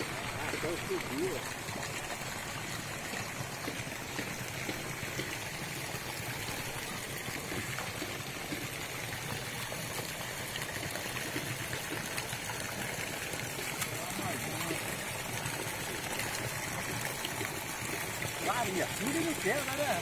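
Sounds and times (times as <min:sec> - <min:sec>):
water pouring into pond: 0:00.0 - 0:20.0.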